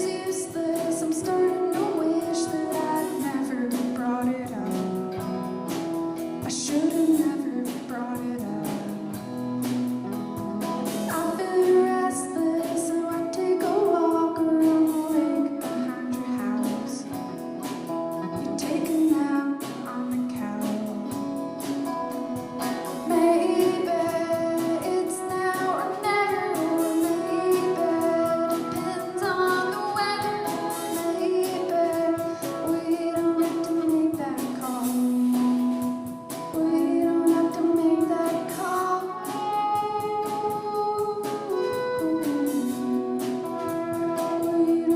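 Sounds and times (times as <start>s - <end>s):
guitar: 0.0s - 44.9s
woman singing: 0.0s - 44.9s.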